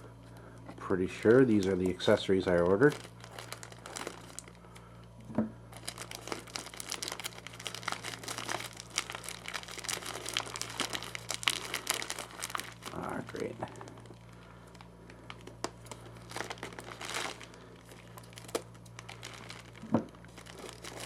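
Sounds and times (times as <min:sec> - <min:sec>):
packaging crinkling: 0:00.9 - 0:04.9, 0:05.7 - 0:21.0.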